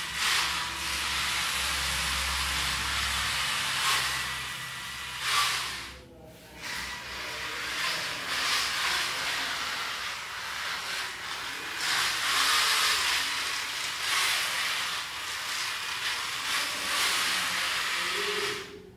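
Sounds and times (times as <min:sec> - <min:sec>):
small gear motors whirring: 0:00.0 - 0:06.0, 0:06.6 - 0:18.9.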